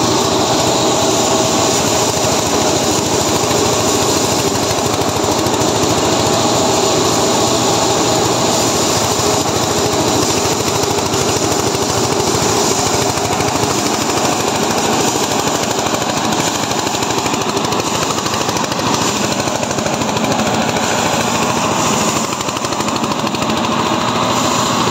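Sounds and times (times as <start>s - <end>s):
threshing machine rattling: 0.0s - 24.9s.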